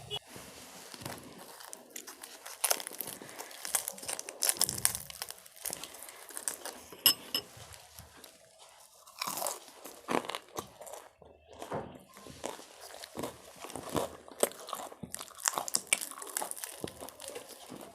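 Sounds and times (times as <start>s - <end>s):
crunching and chewing crisp food: 0.6s - 17.9s.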